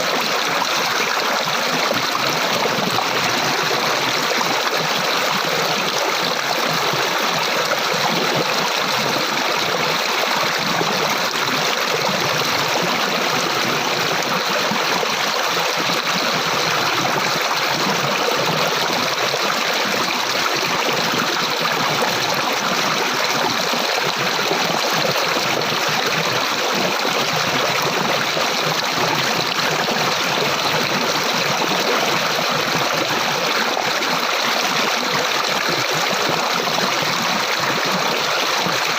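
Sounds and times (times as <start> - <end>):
water flowing in a stream: 0.0 - 38.9.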